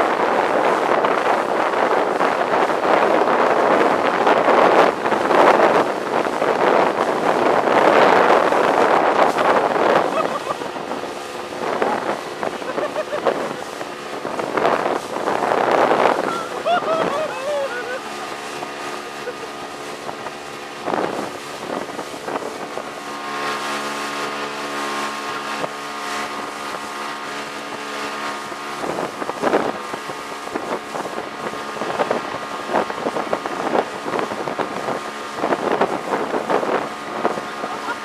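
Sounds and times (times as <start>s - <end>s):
outboard motor running: 0.0s - 38.0s
wind buffeting microphone: 0.0s - 38.0s
hull slapping through water: 0.1s - 38.0s.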